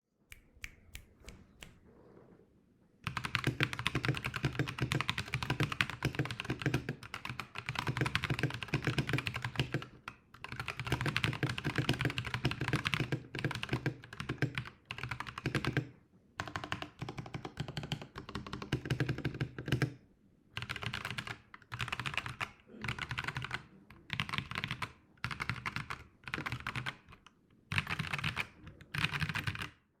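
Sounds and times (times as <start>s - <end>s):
computer keyboard typing: 3.0s - 20.0s, 20.6s - 29.8s.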